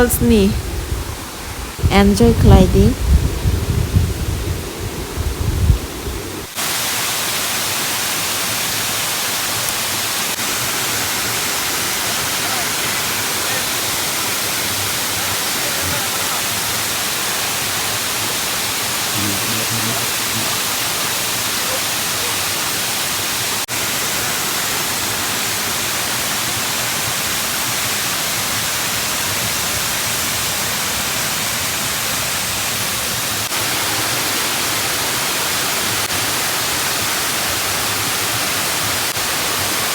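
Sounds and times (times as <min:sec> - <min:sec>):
waterfall rushing: 0:06.4 - 0:39.9.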